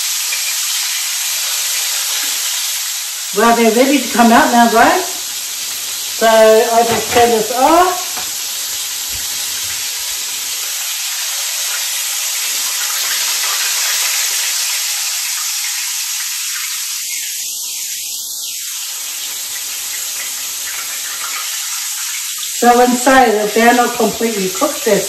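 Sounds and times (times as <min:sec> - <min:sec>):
oysters sizzling in oil: 0:00.0 - 0:25.0.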